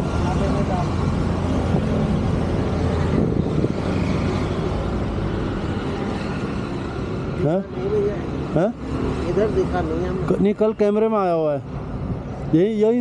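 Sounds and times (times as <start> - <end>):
street traffic rumbling: 0.0 - 13.0.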